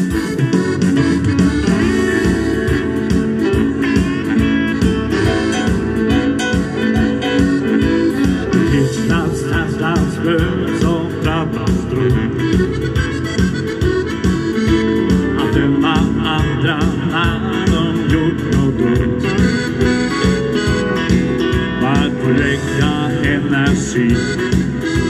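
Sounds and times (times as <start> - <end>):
live band over speakers: 0.0 - 25.0
wavering lead line with vibrato: 0.0 - 25.0.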